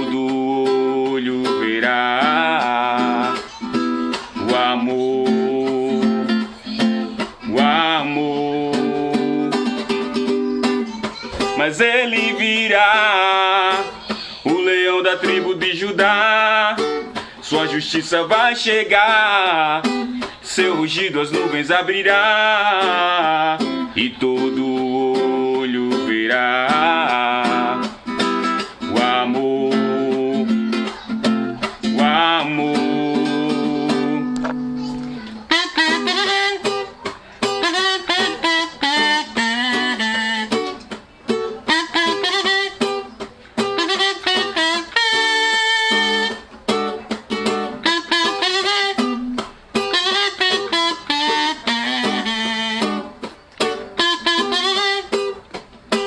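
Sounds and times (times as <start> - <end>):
quick plucked guitar notes: 0.0 - 56.0.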